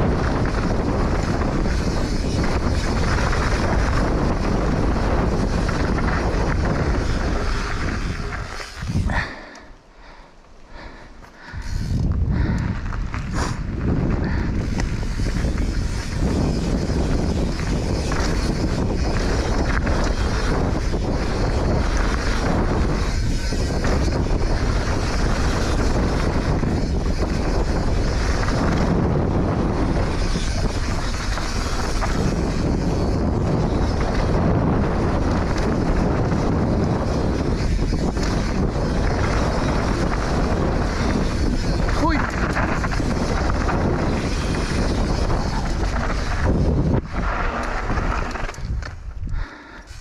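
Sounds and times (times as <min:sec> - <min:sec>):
wind rushing over microphone: 0:00.0 - 0:10.1, 0:10.7 - 0:50.0
bike tyres and rattle: 0:00.0 - 0:50.0.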